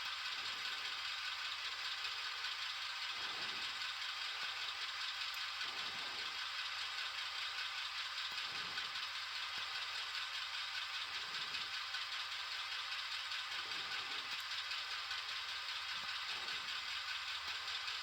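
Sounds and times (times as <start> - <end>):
model locomotive diesel idle sound: 0.0 - 18.0.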